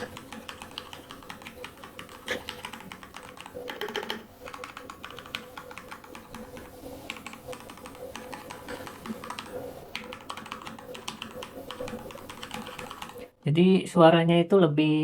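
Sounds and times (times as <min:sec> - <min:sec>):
mechanical keyboard typing: 0:00.0 - 0:13.3.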